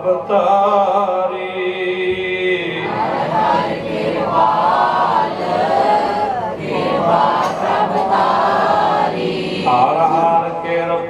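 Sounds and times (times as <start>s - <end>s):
voices singing devotional chant: 0.0s - 10.5s.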